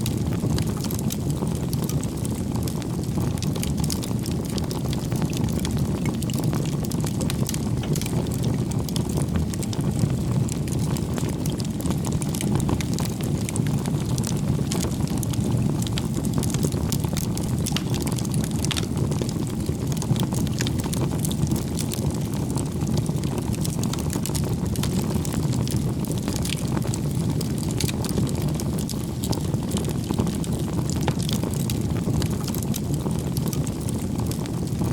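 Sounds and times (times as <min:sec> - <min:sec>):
fire crackling and popping: 0:00.0 - 0:34.9
fire flames rushing: 0:00.0 - 0:34.9.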